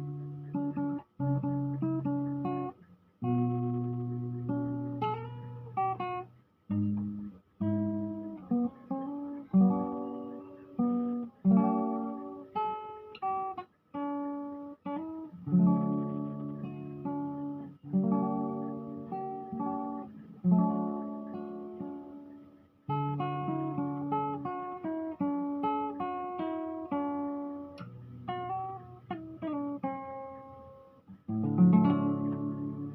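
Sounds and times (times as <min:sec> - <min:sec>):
fingerstyle acoustic guitar: 0:00.0 - 0:32.9.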